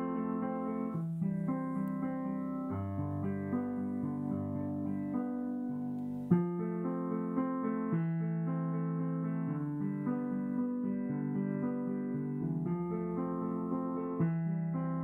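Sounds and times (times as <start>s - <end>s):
electronic piano chords: 0.0s - 15.0s.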